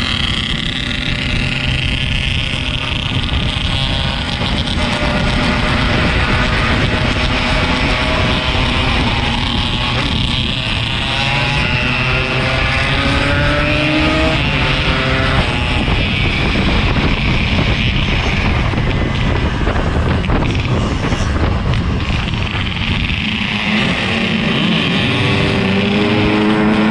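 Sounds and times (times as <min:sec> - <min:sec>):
motorcycle two-stroke engine: 0:00.0 - 0:26.9
wind and road noise: 0:00.0 - 0:26.9.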